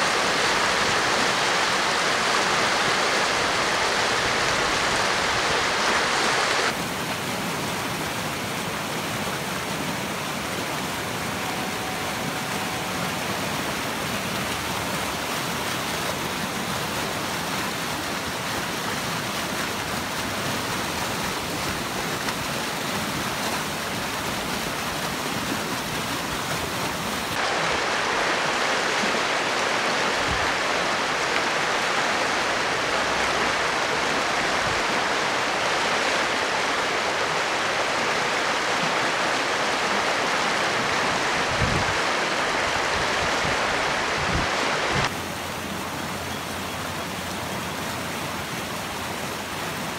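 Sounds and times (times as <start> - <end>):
creek water rushing over rocks: 0.0 - 49.9.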